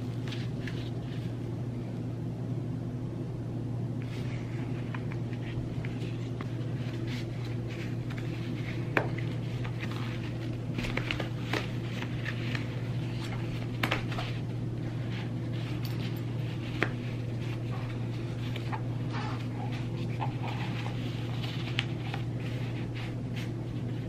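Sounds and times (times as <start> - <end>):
soft rustling handling noise: 0.0 - 2.1, 4.0 - 24.0
low hum: 0.0 - 24.0.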